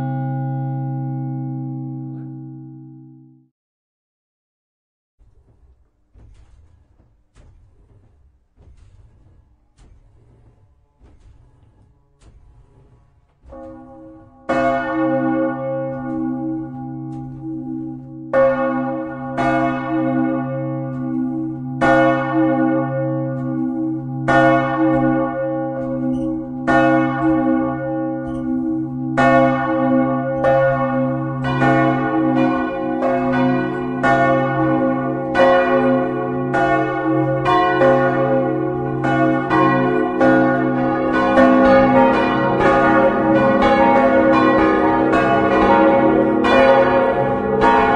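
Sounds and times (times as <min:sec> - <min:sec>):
church bells ringing: 0:00.0 - 0:03.3, 0:11.3 - 0:47.9.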